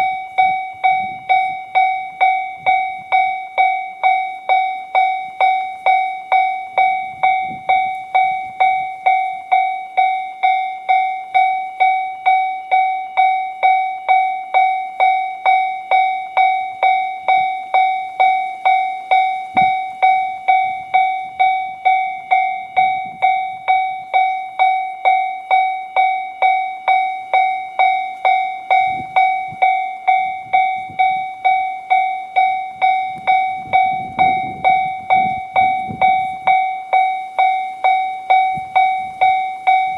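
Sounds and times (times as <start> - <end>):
electronic crossing warning bell: 0.0 - 39.9.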